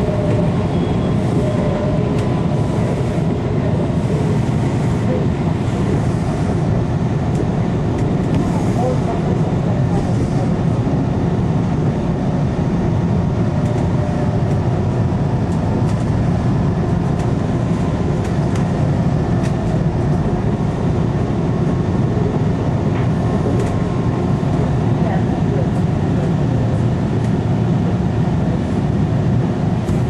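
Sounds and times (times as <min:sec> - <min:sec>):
faint whine: 0:00.0 - 0:26.9
rail car rumbling: 0:00.0 - 0:30.0.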